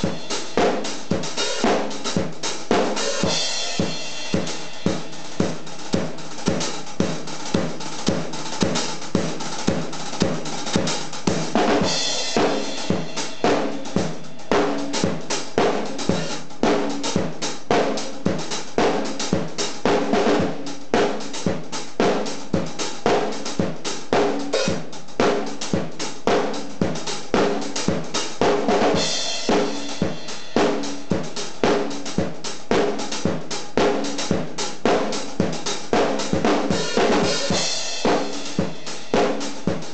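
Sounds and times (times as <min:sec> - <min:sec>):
drum kit rock groove: 0:00.0 - 0:39.9.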